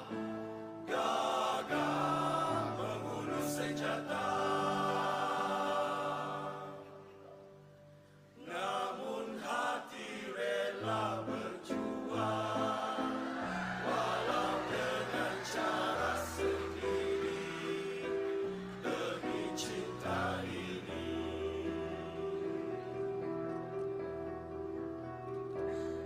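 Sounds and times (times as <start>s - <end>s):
male choir singing in harmony: 0.0s - 7.4s, 8.4s - 24.1s.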